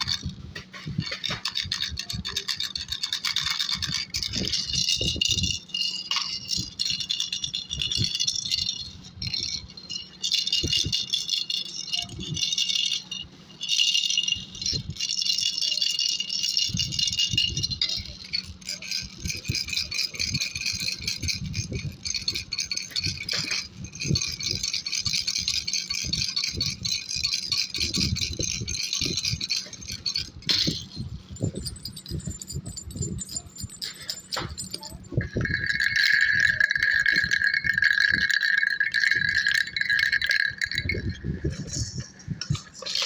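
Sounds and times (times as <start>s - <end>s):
baby rattle jingling: 0.0s - 43.0s.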